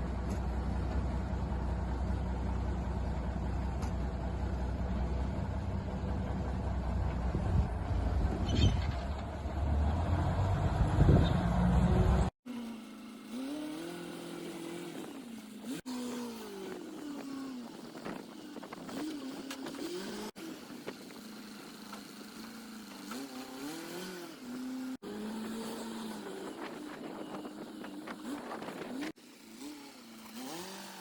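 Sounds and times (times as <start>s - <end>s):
truck engine revving: 3.0s - 12.4s, 13.0s - 31.0s.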